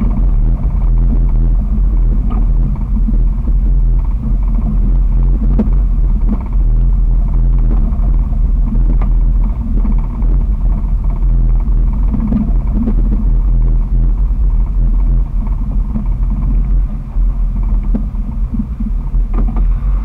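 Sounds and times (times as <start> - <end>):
loud exhaust drone: 0.0 - 20.0.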